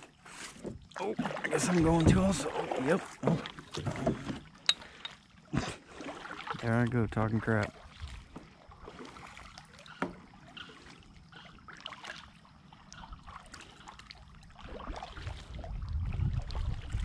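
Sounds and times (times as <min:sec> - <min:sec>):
kayak paddle strokes: 0:00.0 - 0:17.0
water dripping off paddle: 0:00.8 - 0:05.3, 0:06.0 - 0:15.5.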